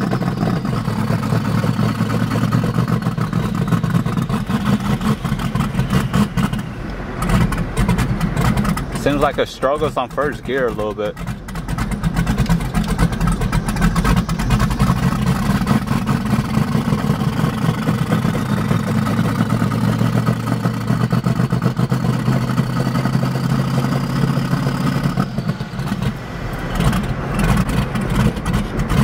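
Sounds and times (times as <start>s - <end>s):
faint turbo whine: 0.0s - 29.0s
truck engine pulling away: 0.0s - 29.0s.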